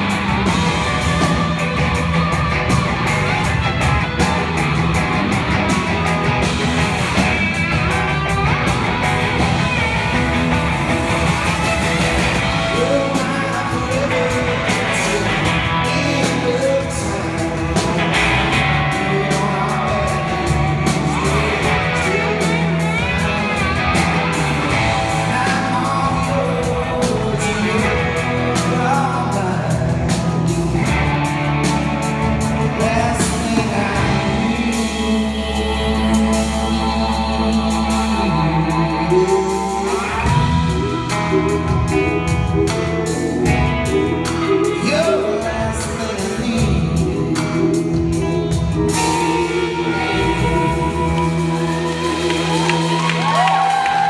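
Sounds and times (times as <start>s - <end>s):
drums: 0.0s - 54.0s
electric guitars: 0.0s - 54.0s
person singing: 0.0s - 54.0s.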